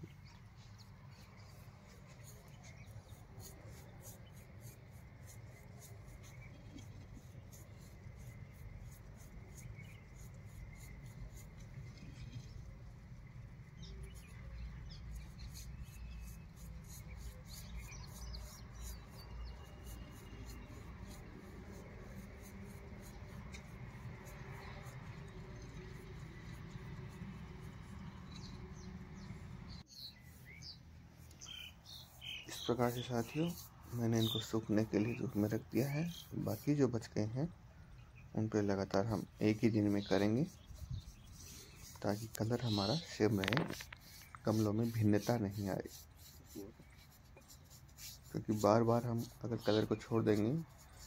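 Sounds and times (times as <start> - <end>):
paintbrush scratching on cement: 0.6 - 37.5, 38.4 - 51.0.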